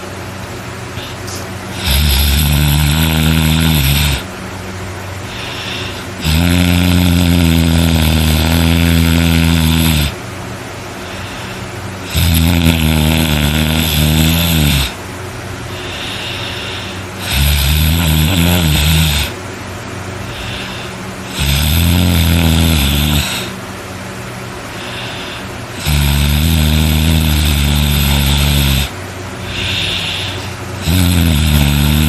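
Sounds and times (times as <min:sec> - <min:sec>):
person snoring loudly: 0:01.0 - 0:04.3, 0:05.3 - 0:10.2, 0:11.0 - 0:15.0, 0:15.7 - 0:19.4, 0:20.2 - 0:23.6, 0:24.7 - 0:32.0.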